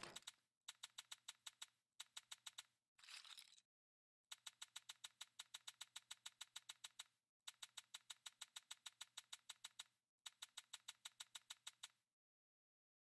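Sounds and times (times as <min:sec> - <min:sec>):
rapid digital clicks: 0:00.0 - 0:02.8, 0:04.3 - 0:12.0.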